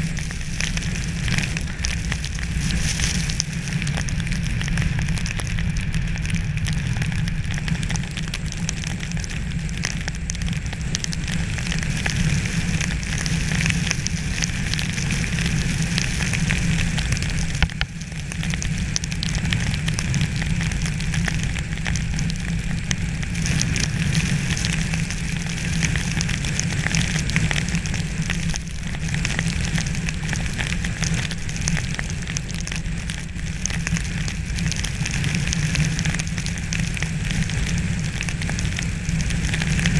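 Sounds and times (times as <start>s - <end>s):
low steady rumble: 0.0s - 39.9s.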